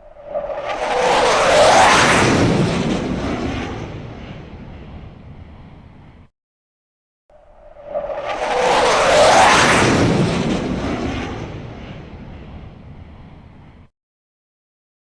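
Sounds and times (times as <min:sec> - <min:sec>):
fighter jet flying past: 0:00.0 - 0:06.3, 0:07.3 - 0:13.9.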